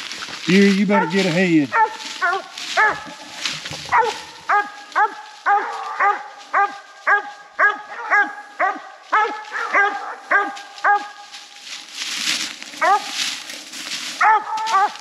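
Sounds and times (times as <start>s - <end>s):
hound barking: 0.5s - 11.4s, 12.8s - 13.3s, 14.1s - 15.0s.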